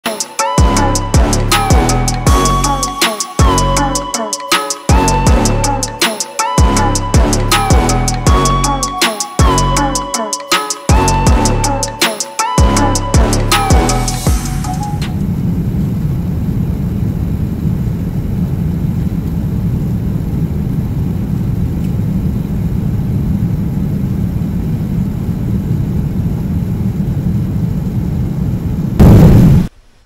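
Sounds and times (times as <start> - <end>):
airliner cabin rushing drone: 0.0 - 29.8.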